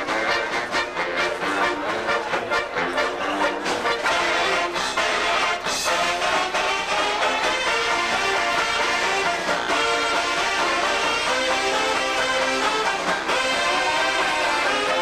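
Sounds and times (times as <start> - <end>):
accordions playing a tune: 0.0 - 15.0
banjos strumming: 0.0 - 15.0.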